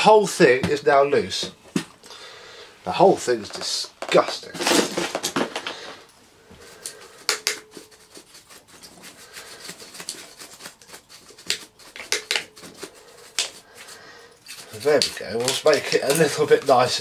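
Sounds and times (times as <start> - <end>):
scraping and rubbing: 3.2 - 17.0.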